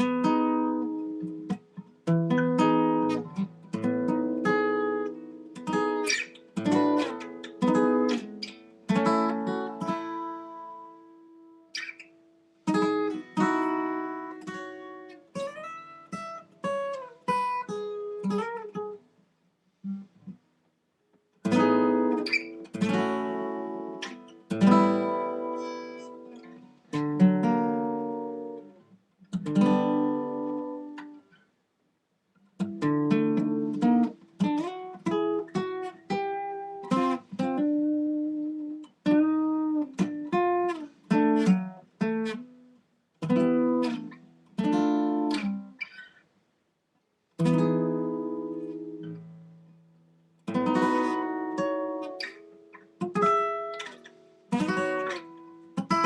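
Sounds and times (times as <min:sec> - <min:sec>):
acoustic guitar: 0:00.0 - 0:31.6, 0:32.3 - 0:56.0.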